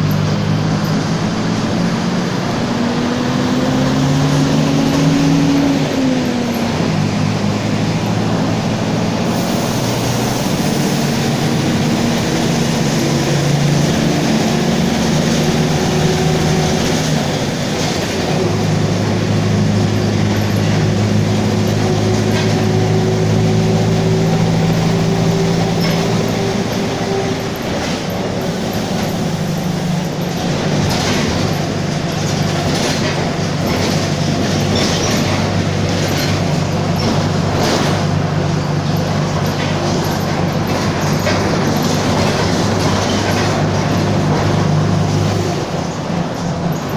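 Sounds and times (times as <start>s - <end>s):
bus engine running: 0.0s - 46.9s
road noise: 0.0s - 46.9s.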